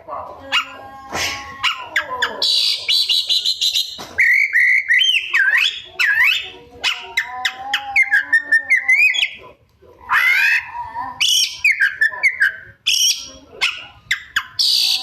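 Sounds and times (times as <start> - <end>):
bird singing varied song: 0.6 - 9.5, 10.1 - 15.0.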